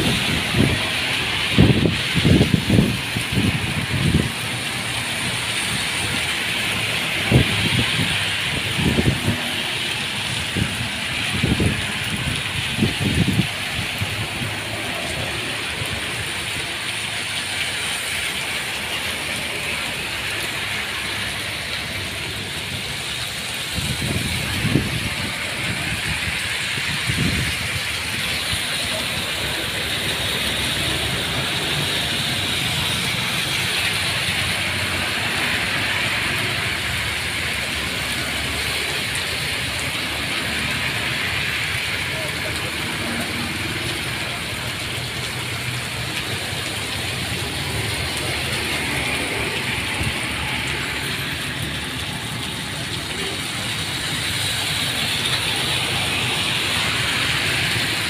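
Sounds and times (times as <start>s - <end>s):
steady rain falling: 0.0s - 58.0s
vehicles passing on wet road: 0.0s - 58.0s.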